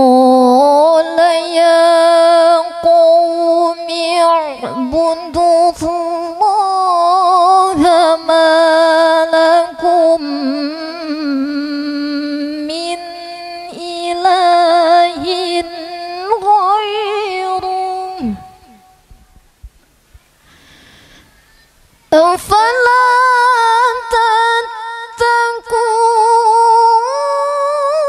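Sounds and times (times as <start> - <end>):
woman chanting melodically: 0.0 - 19.0, 22.1 - 28.0.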